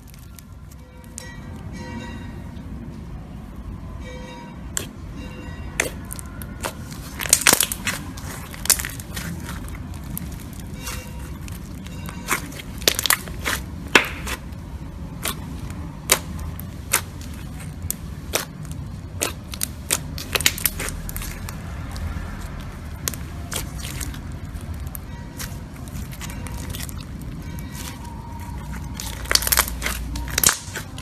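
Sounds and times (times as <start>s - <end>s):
slime popping and crackling: 0.0s - 1.3s, 5.8s - 31.0s.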